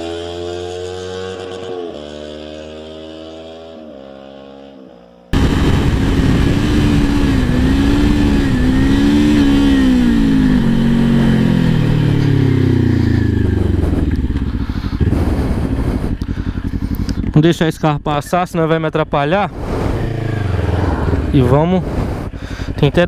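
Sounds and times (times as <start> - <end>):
motorcycle engine revving loud: 0.0 - 17.4, 19.5 - 23.0.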